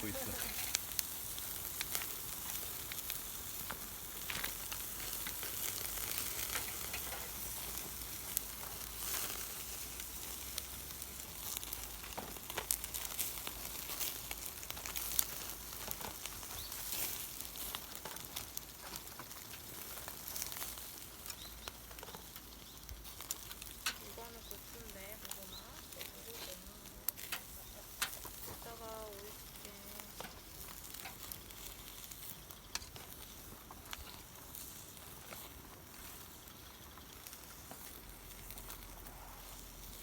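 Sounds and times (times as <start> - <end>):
fire popping and crackling: 0.0 - 40.0
meat sizzling on a grill: 0.0 - 40.0.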